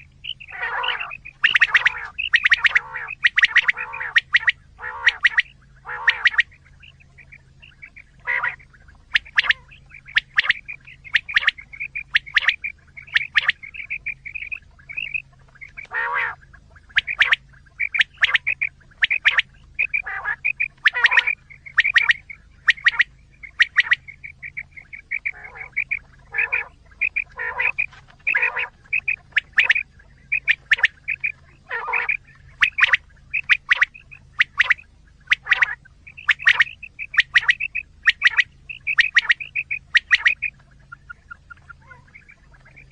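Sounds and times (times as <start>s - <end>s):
quail calling: 0.0s - 42.9s.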